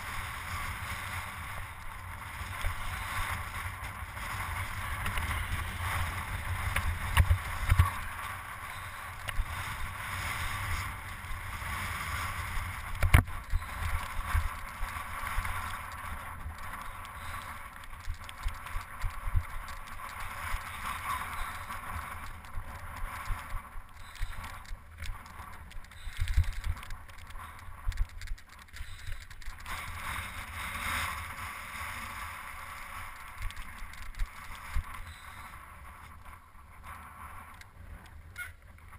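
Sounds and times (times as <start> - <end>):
bike knocking and rattling: 0.0 - 38.9
bike tyres crunching over gravel: 0.0 - 38.9.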